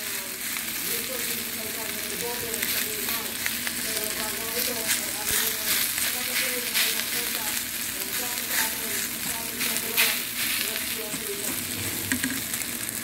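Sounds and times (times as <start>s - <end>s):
rice sizzling in a frying pan: 0.0s - 13.0s.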